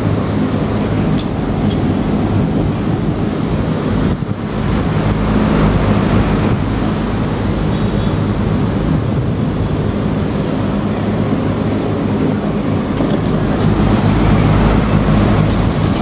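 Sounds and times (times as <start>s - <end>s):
condenser fans blowing: 0.0s - 16.0s.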